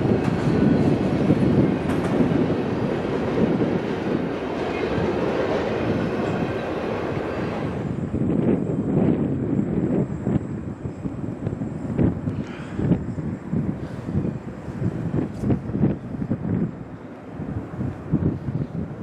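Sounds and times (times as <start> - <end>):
freight train rolling on rails: 0.0 - 19.0.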